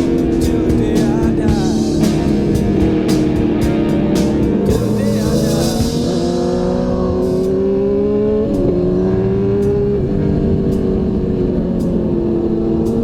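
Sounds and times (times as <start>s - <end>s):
motorcycle engine shifting up: 0.0s - 13.0s.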